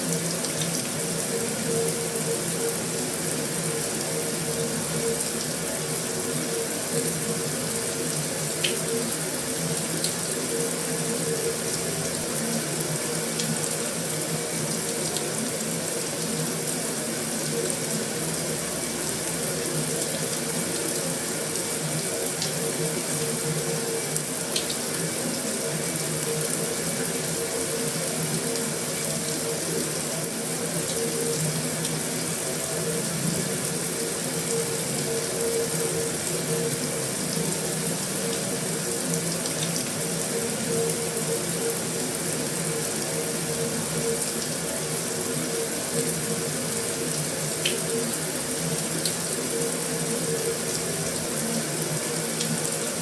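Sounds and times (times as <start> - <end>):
heavy rain on a metal roof: 0.0 - 53.0.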